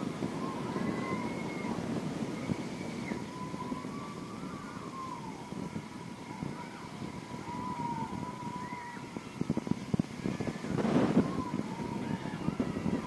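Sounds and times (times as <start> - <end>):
wavering thin whine: 0.0 - 13.0
wind rushing over microphone: 0.0 - 13.0.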